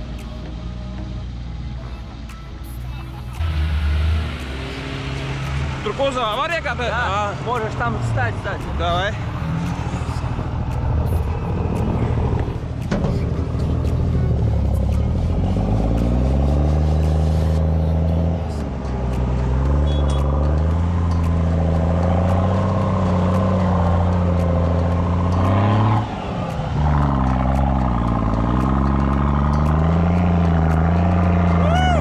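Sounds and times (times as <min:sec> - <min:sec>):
off-road vehicle engine under load: 0:00.0 - 0:32.0.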